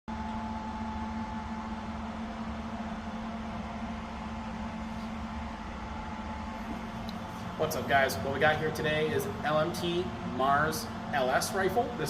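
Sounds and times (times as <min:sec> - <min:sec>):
steady mechanical hum: 0:00.1 - 0:12.0.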